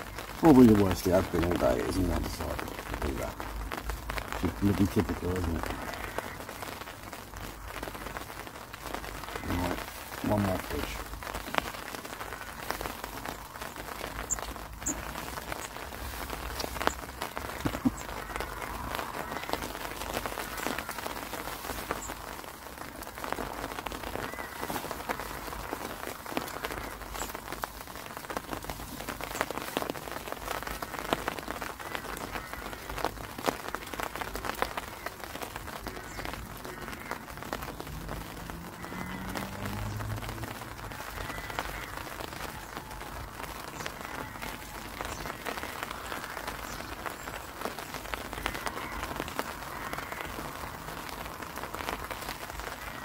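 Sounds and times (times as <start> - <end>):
heavy rain on umbrella: 0.0 - 53.0.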